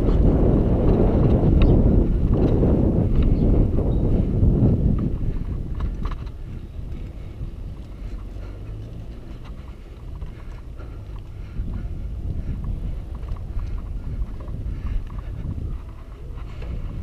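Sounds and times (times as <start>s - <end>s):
bicycle clicks and rattles: 0.0s - 17.0s
wind rumbling on microphone: 0.0s - 17.0s.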